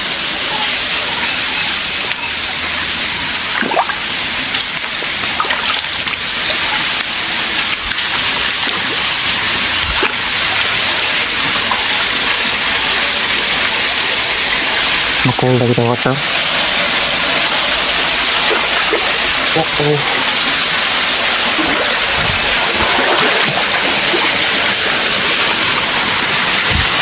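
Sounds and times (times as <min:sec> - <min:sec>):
waterfall rushing water: 0:00.0 - 0:27.0.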